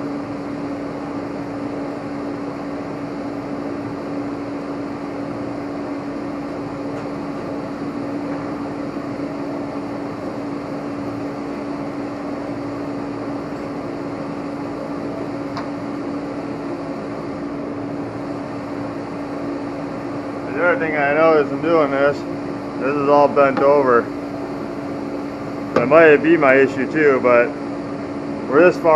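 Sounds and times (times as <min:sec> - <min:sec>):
steady mechanical hum: 0:00.0 - 0:28.9.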